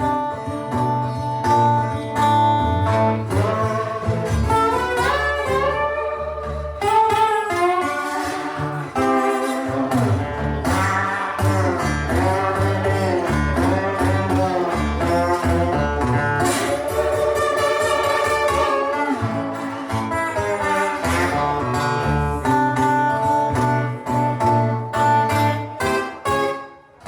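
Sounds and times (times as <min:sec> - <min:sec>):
blues band playing: 0:00.0 - 0:27.0
lead guitar bending notes: 0:00.0 - 0:27.0.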